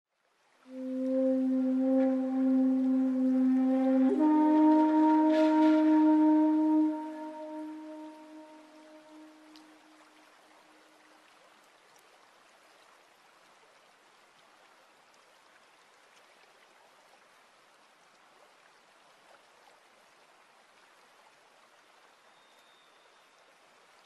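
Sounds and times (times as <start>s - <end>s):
tiny water drips: 0.5s - 24.0s.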